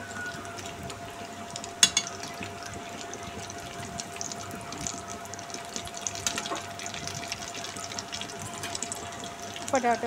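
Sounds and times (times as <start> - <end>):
deep-frying sizzle with pops: 0.0 - 10.0.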